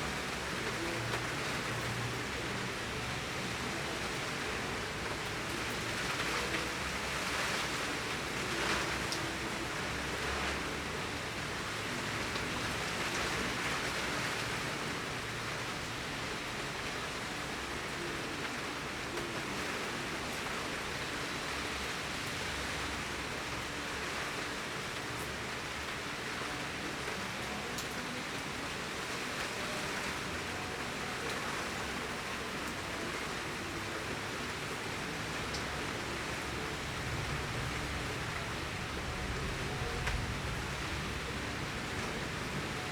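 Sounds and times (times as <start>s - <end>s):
torrential rain pouring: 0.0s - 42.9s.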